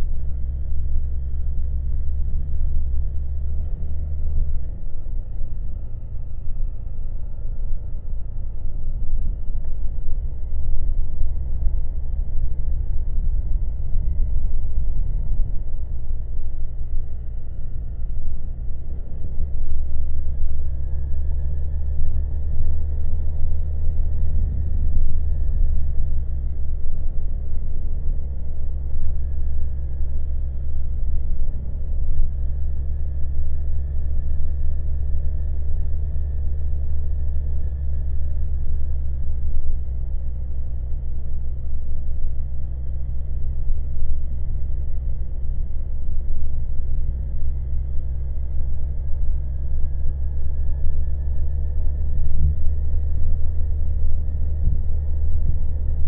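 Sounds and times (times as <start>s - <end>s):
faint thin whine: 0.0s - 56.0s.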